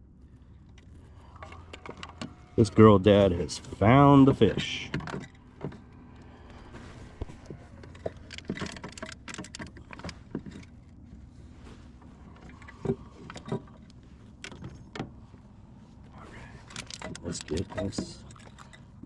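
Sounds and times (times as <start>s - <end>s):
gear knocking and rattling: 0.4s - 15.4s, 16.3s - 19.0s.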